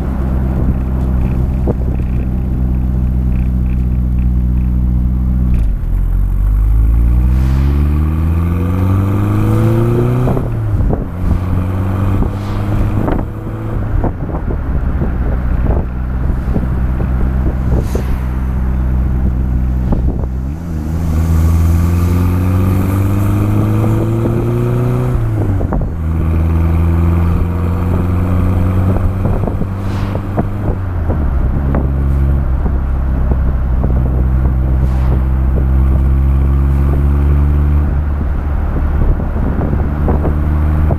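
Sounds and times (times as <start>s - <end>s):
wind buffeting microphone: 0.0s - 5.9s, 8.2s - 40.9s
car engine revving: 0.0s - 40.9s.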